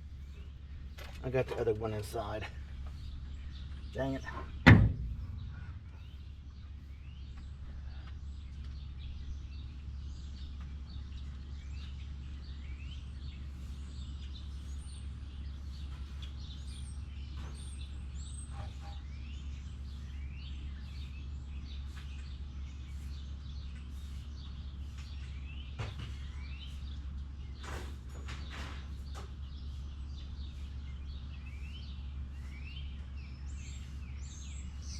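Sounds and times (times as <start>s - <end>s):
birds chirping: 0.0s - 34.9s
steady low hum: 0.0s - 34.9s.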